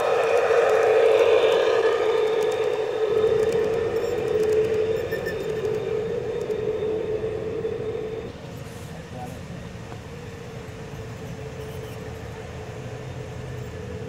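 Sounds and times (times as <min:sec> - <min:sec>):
model train rolling past: 0:00.0 - 0:14.0.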